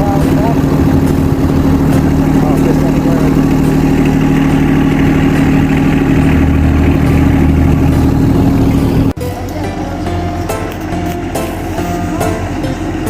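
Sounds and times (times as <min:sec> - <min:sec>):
motor droning: 0:00.0 - 0:13.0.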